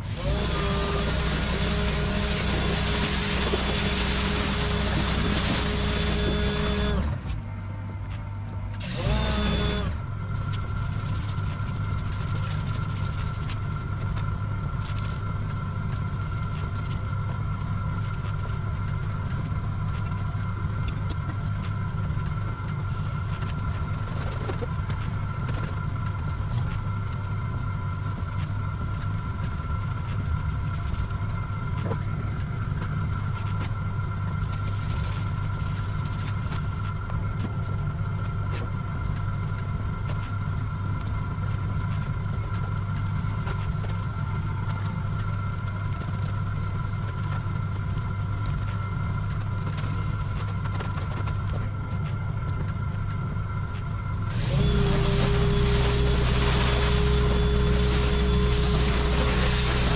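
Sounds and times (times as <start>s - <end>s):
engine humming with high whine: 0.0s - 59.9s.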